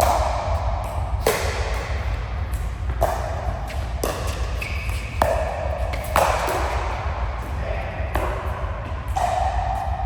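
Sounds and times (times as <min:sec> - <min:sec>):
sharp echoing thuds: 0:00.0 - 0:10.0
steady low hum: 0:00.0 - 0:10.0.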